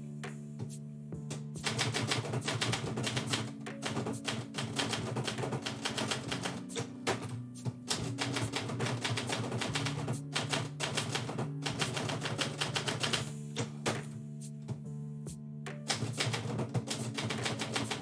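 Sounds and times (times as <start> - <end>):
background music with low notes: 0.0 - 18.0
typewriter keys striking: 1.3 - 14.0, 15.8 - 18.0.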